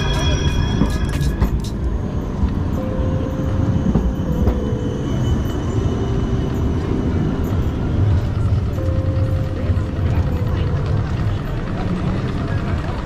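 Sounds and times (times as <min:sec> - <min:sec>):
rail vehicle rumbling past: 0:00.0 - 0:13.0.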